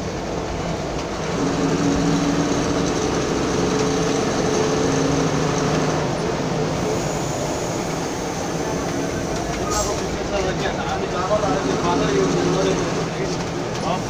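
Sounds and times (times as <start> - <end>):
road noise: 0.0 - 14.0
vehicle engine drone: 0.0 - 14.0.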